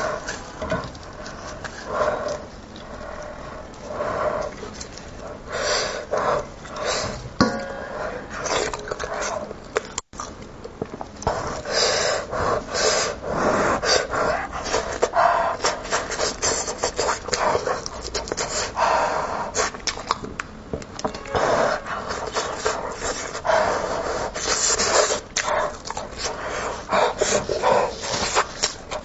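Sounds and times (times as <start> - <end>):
wet chewing and slurping: 0.0 - 29.0.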